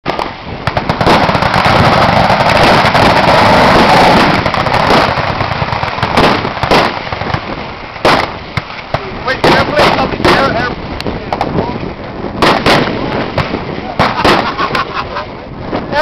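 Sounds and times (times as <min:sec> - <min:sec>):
machine guns firing: 0:00.1 - 0:10.6, 0:12.4 - 0:14.9.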